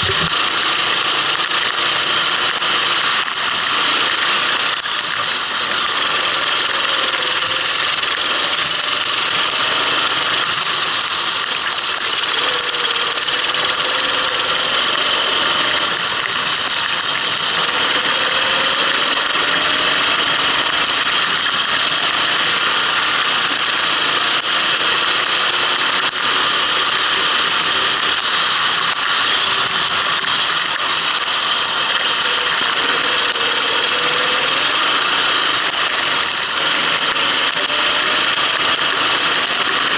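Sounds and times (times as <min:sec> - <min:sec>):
kart engine running: 0:00.0 - 0:39.9
rushing noise: 0:00.0 - 0:39.9.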